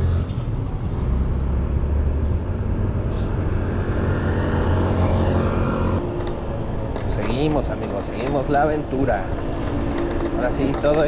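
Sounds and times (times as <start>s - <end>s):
engine revving: 0.0s - 11.0s
vehicle engines humming: 0.0s - 11.0s.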